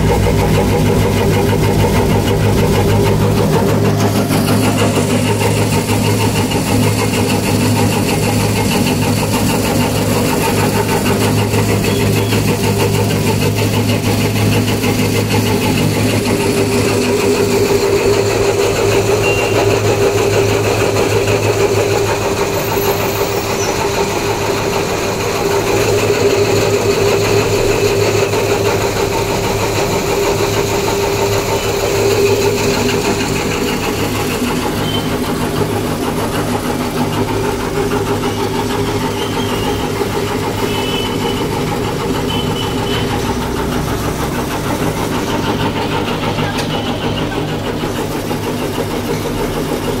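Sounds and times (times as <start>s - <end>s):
cutting machine humming: 0.0s - 50.0s.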